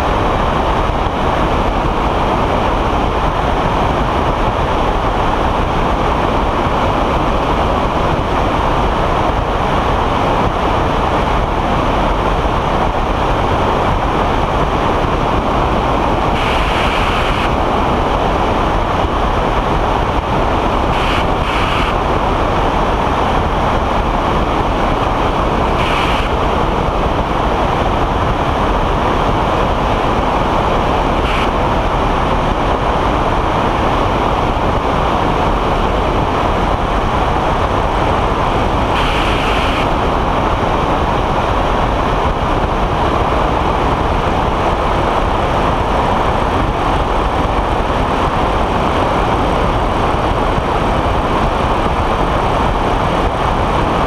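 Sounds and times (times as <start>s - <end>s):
engine and propeller drone: 0.0s - 54.0s
wind rushing over microphone: 0.0s - 54.0s.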